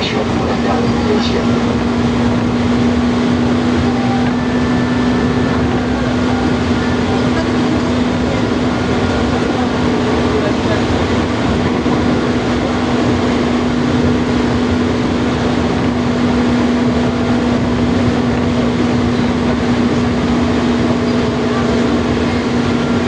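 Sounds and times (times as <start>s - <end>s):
train running hum: 0.0s - 23.0s.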